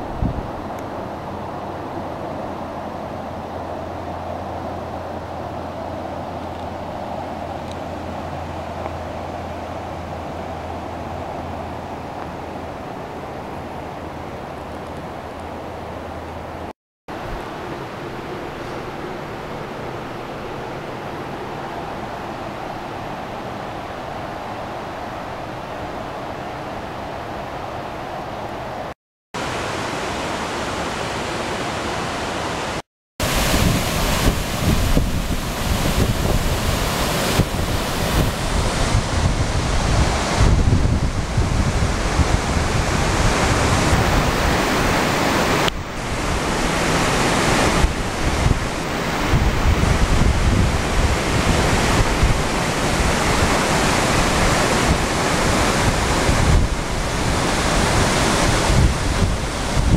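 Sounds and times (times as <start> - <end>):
wind rumble on microphone: 0.0 - 28.9, 33.2 - 59.9
waterfall roaring: 0.0 - 59.9.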